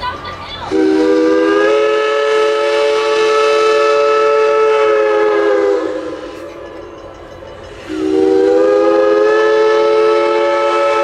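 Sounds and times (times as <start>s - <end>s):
steam whistle blast: 0.7s - 6.5s, 7.8s - 11.0s.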